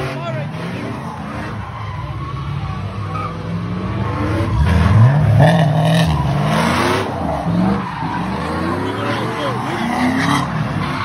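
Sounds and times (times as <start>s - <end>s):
engine revving: 0.0s - 11.0s
tyres screeching: 0.0s - 11.0s.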